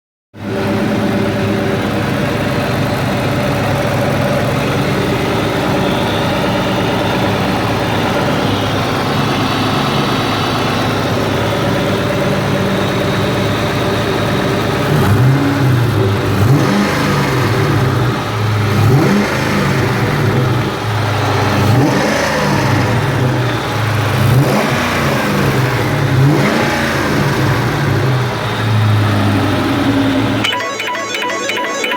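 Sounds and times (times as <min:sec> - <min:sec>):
car engine idling and revving: 0:00.3 - 0:30.5.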